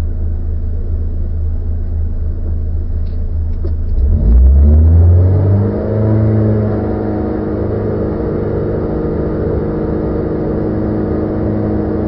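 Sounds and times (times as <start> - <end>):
car engine accelerating: 1.8 - 12.0.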